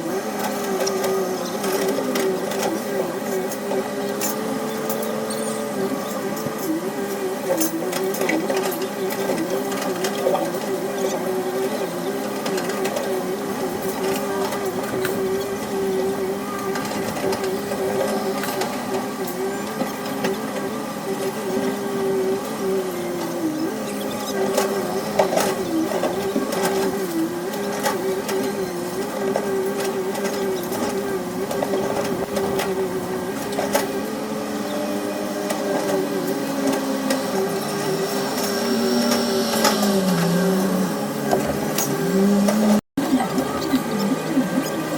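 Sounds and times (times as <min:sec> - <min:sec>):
excavator hum: 0:00.0 - 0:44.9.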